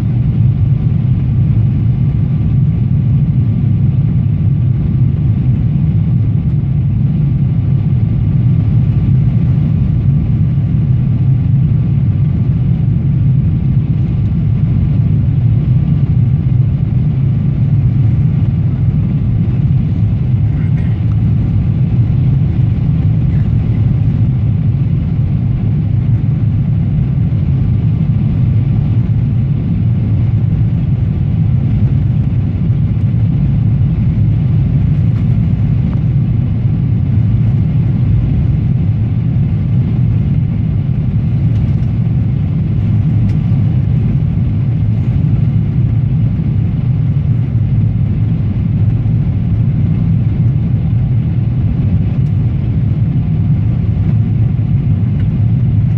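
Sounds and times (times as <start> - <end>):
aircraft cabin engine rumble: 0.0 - 55.9
faint steady whine: 0.0 - 55.9.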